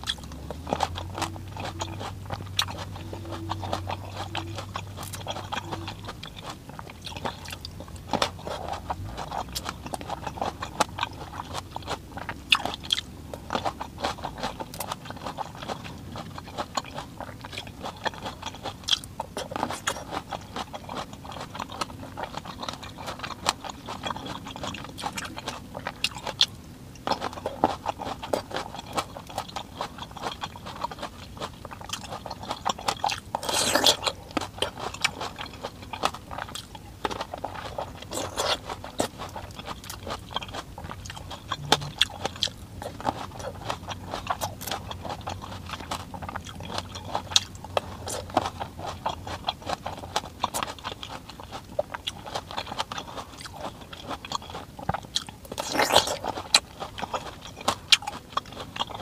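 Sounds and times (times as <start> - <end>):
person crunching grapes: 0.0 - 59.0.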